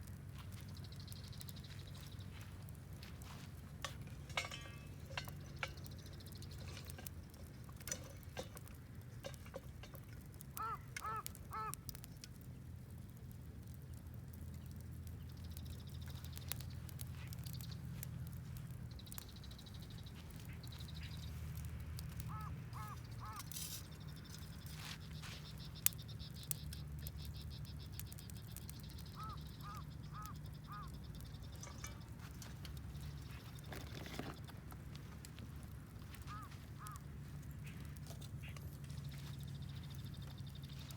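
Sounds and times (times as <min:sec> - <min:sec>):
wood fire crackling: 0:00.0 - 0:40.9
birds calling: 0:00.4 - 0:12.0, 0:14.6 - 0:40.9.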